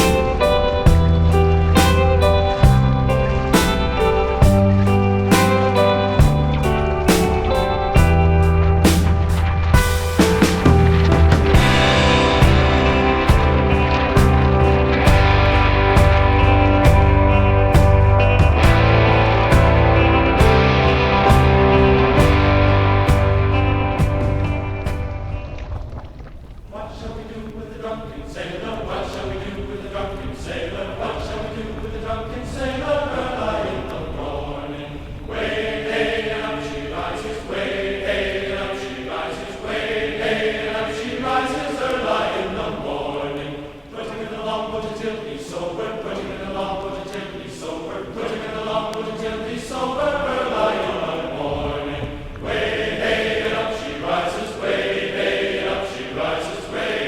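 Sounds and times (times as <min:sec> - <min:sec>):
choir-like chanted singing: 0:00.0 - 0:24.5, 0:26.7 - 0:57.0.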